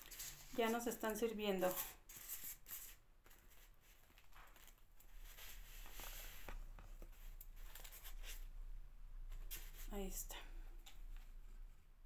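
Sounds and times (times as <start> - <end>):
soft handling of craft pieces: 0.0 - 12.0.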